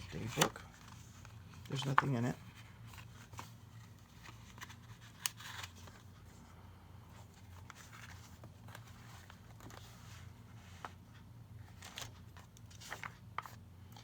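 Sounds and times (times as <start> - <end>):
notebook pages rustling: 0.0 - 6.4, 7.0 - 14.0.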